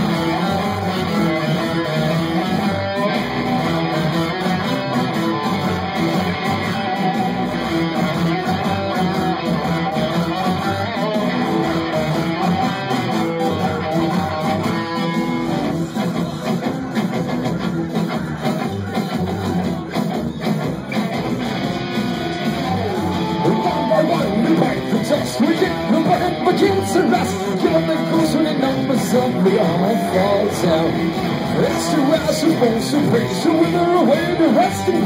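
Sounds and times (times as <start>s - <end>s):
drums: 0.0s - 35.0s
electric guitar: 0.0s - 35.0s
keyboard: 0.0s - 35.0s.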